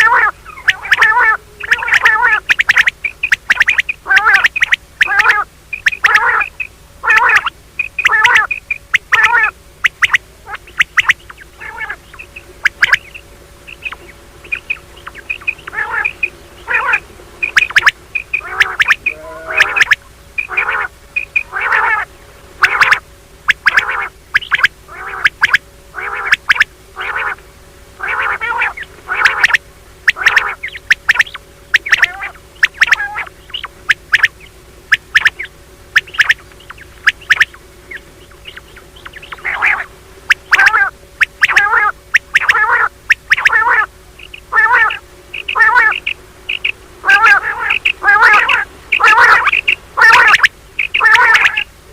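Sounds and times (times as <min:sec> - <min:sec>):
quail calling: 0:00.0 - 0:51.9.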